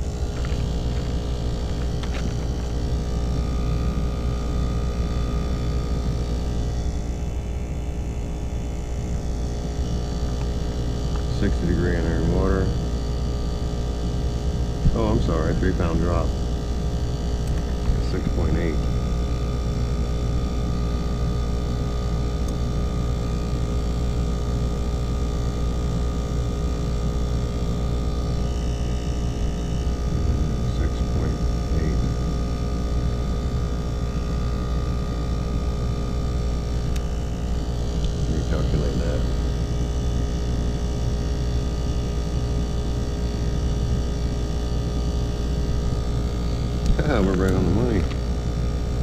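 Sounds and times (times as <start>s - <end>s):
heat pump mechanical hum: 0.0s - 49.0s.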